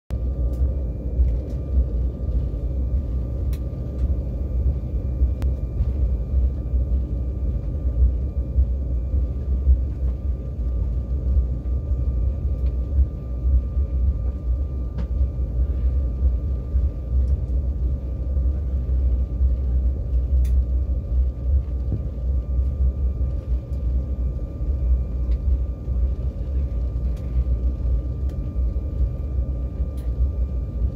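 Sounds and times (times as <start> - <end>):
jet engines deep rumble: 0.1 - 30.9.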